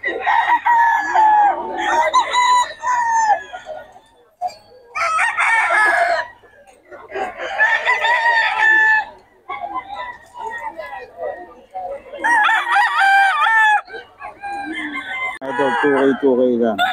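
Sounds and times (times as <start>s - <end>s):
roosters crowing: 0.0s - 10.6s, 11.9s - 16.9s.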